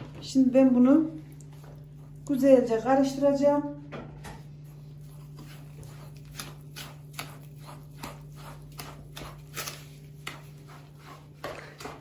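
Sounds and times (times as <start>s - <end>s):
spoon stirring thick batter: 0.0s - 3.4s, 4.4s - 12.0s.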